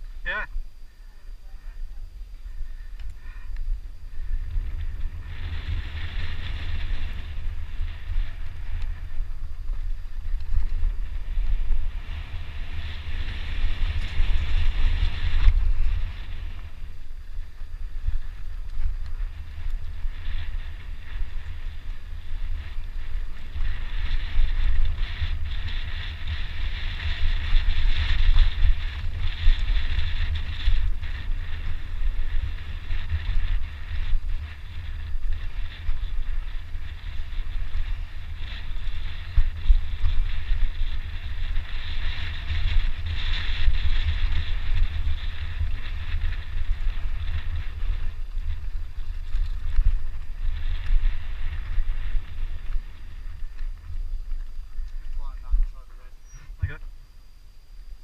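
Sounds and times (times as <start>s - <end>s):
wind buffeting microphone: 0.0s - 58.0s
tyre noise on dirt: 3.0s - 58.0s.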